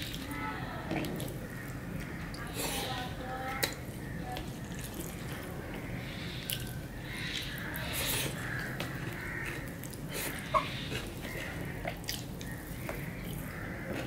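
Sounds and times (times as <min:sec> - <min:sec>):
wet chewing: 0:00.9 - 0:14.0.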